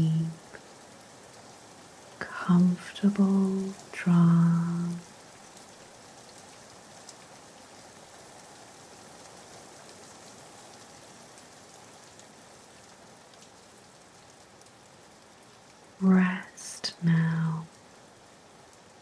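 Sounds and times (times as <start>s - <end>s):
soft steady rain: 0.0s - 19.0s.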